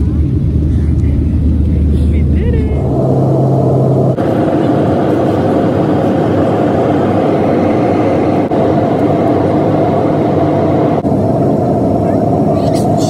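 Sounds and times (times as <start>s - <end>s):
airplane cabin engine noise: 0.0s - 13.0s.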